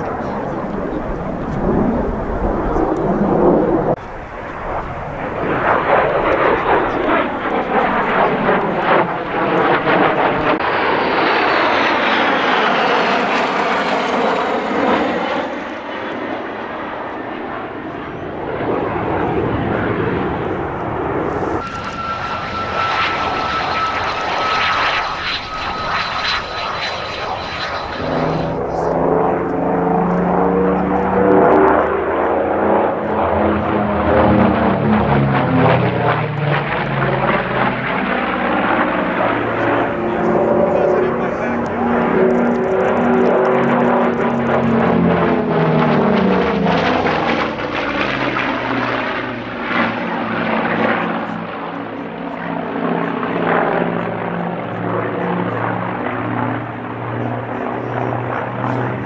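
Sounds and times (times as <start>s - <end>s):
jet aircraft flying overhead: 0.0s - 59.0s
jet engine whistling on ground: 0.0s - 59.0s.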